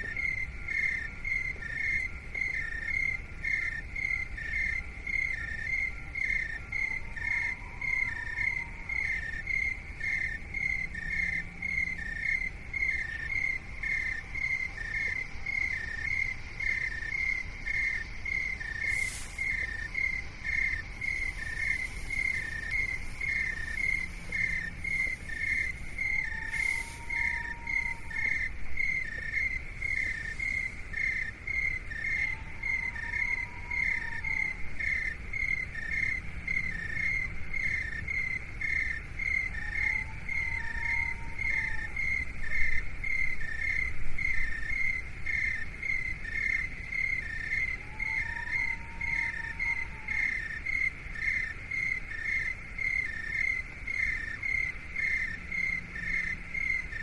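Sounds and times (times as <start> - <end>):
constant low rumble: 0.0 - 57.0
insects chirping: 0.0 - 57.0.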